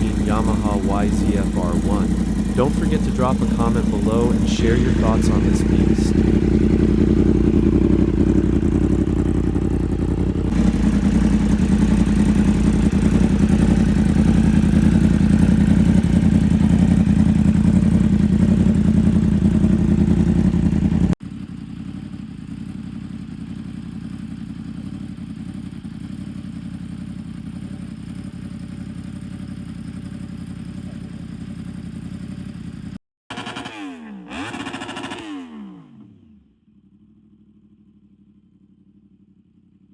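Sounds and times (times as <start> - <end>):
motorcycle engine idling: 0.0 - 33.7, 36.0 - 39.9
motorcycle engine revving: 0.0 - 37.4.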